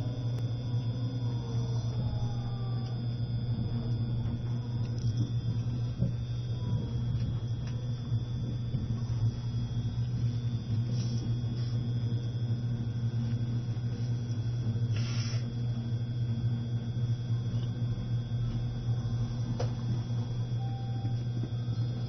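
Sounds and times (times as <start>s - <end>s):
train cabin hum and rumble: 0.0s - 22.0s.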